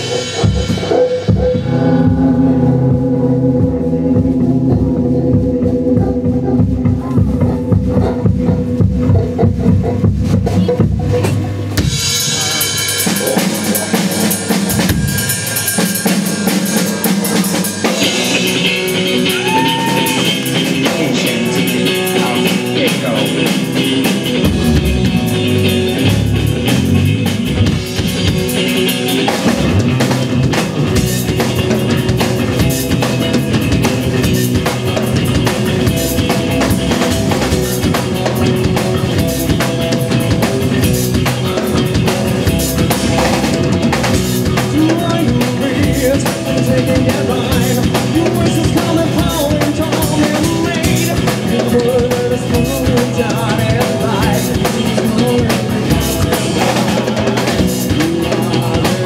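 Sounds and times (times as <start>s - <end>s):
drums hitting steadily: 0.0s - 59.0s
live rock band: 0.0s - 59.0s.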